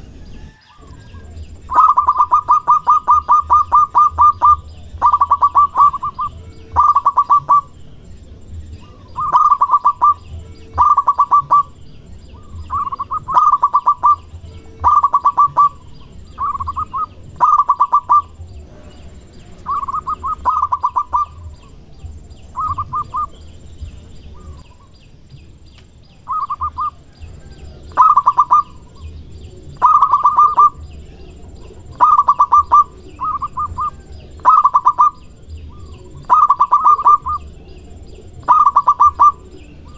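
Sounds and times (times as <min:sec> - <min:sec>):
dove cooing: 0:00.0 - 0:25.1, 0:26.1 - 0:39.9.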